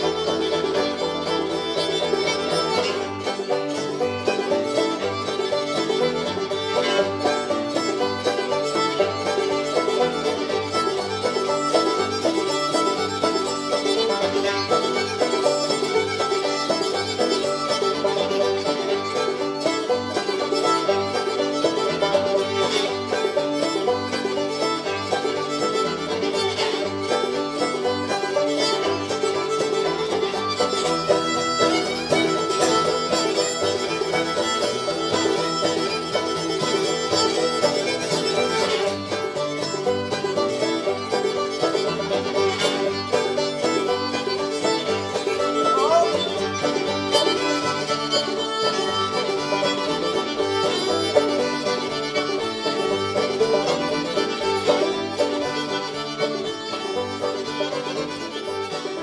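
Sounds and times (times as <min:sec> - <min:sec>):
upbeat bluegrass tune: 0:00.0 - 0:59.0.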